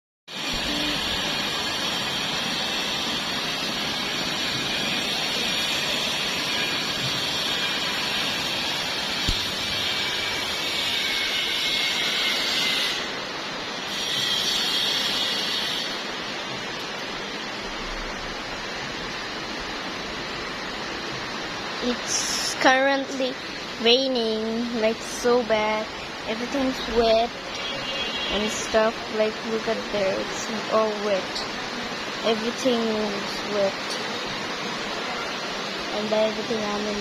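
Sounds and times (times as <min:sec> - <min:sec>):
heavy rain hiss: 0:00.3 - 0:37.0.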